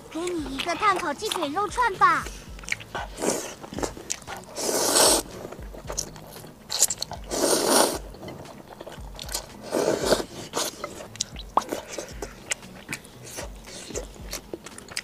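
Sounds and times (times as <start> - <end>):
mouth clicks: 0.0 - 15.0
wet chewing: 0.0 - 15.0
slurping noodles: 2.2 - 15.0.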